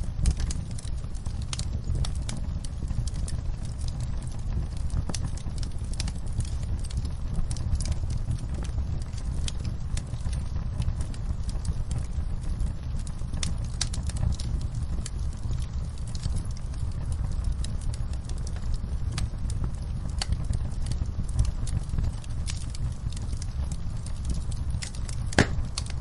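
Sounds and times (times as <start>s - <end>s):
campfire low rumble: 0.0s - 26.0s
wood crackling and popping: 0.0s - 26.0s.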